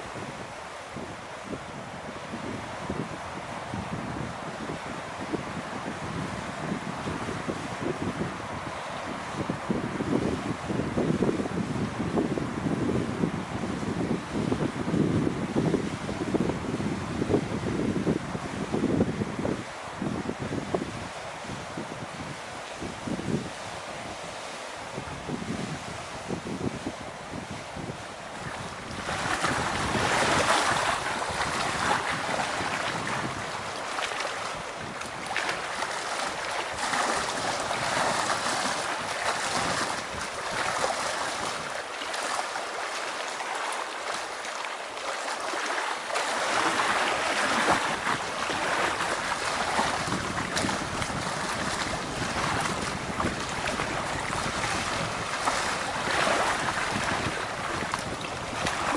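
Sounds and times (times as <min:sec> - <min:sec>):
small waves lapping at shore: 0:00.0 - 0:58.9
wind gusting through pine trees: 0:00.0 - 0:58.9.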